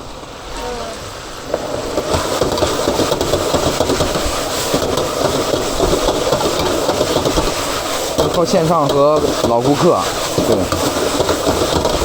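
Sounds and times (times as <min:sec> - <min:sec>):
gas burner rumble: 0:00.0 - 0:12.0
chicken sizzling in a wok: 0:01.4 - 0:12.0.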